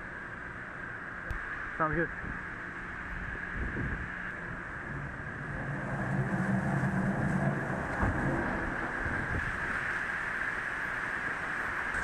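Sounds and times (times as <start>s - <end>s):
wind hiss: 0.0s - 12.0s.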